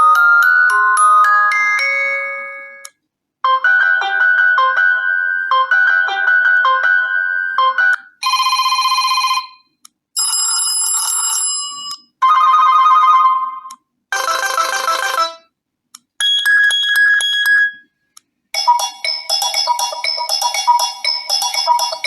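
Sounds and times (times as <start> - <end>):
phone ringtone chiming melodies: 0.0 - 9.6, 10.2 - 15.5, 18.6 - 22.0.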